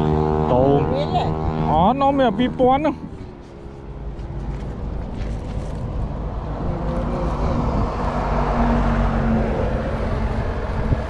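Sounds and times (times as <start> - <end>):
vehicle passing by: 0.0 - 11.0.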